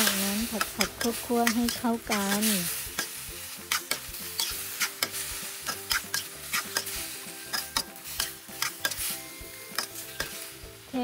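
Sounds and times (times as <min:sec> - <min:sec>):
metal spatula scraping a wok: 0:00.0 - 0:10.7
food sizzling: 0:00.0 - 0:11.0.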